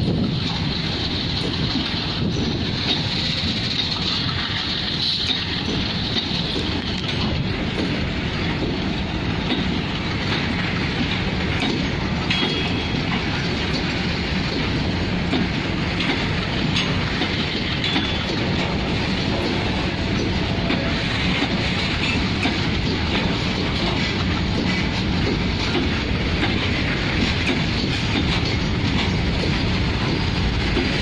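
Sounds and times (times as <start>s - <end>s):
freight train rumbling past: 0.0s - 31.0s
wheels clicking over rail joints: 0.0s - 31.0s.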